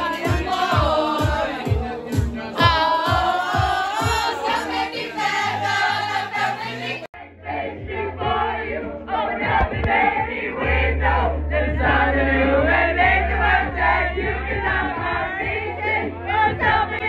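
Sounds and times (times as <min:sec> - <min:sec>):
group singing karaoke: 0:00.0 - 0:17.0
karaoke backing track: 0:00.0 - 0:17.0.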